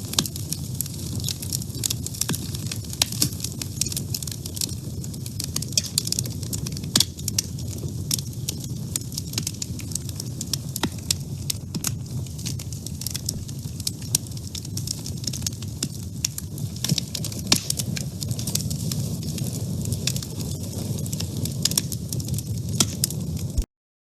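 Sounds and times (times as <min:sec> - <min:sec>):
wood fire crackling: 0:00.0 - 0:23.7.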